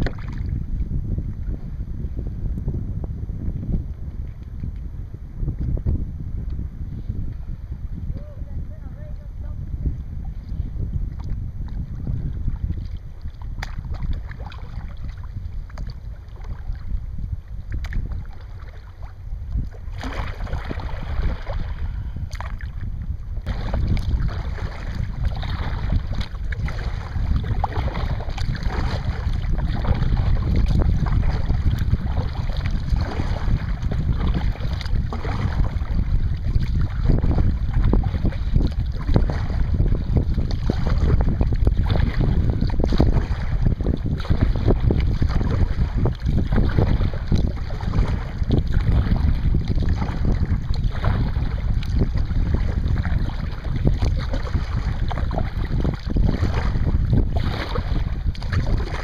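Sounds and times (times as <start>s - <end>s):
paddle water splashing: 0.0s - 0.6s, 10.1s - 59.0s
wind rumbling on microphone: 0.0s - 59.0s.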